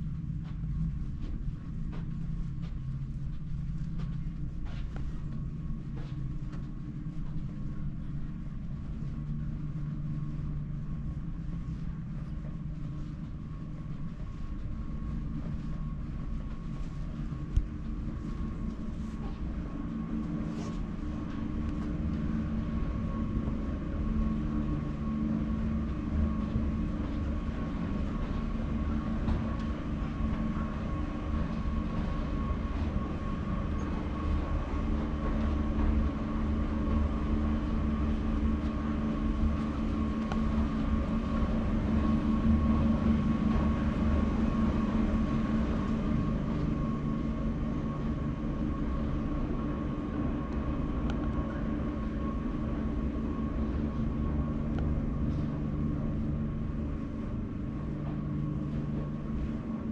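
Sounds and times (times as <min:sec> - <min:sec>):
low mechanical rumble and hum: 0:00.0 - 0:59.9.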